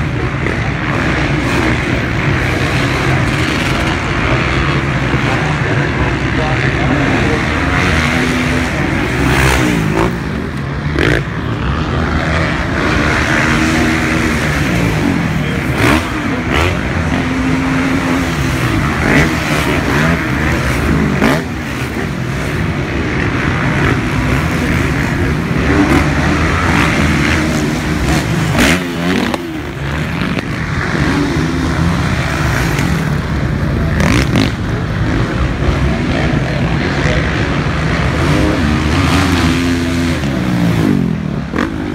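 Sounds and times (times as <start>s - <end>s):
motocross bikes revving: 0.0s - 41.9s.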